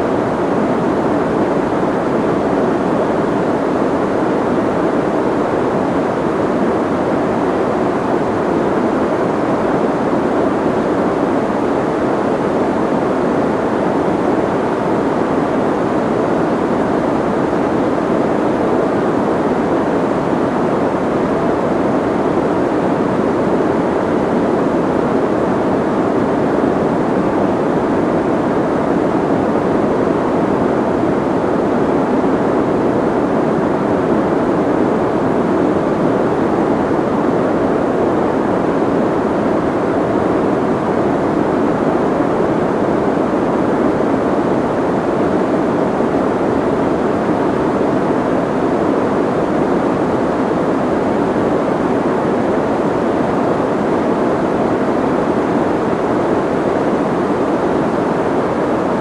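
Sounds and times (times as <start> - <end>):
soft white noise hiss: 0.0 - 59.0.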